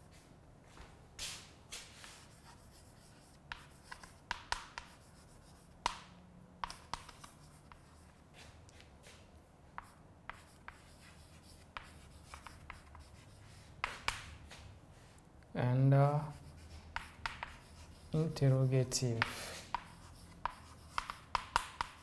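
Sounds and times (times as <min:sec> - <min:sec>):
chalk writing on a blackboard: 0:01.7 - 0:15.2, 0:16.2 - 0:22.0.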